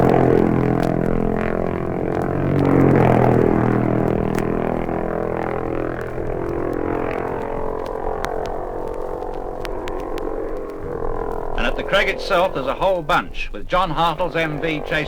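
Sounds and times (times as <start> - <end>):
racing motorcycles passing: 0.0 - 15.0
vinyl record surface clicks: 0.0 - 15.0.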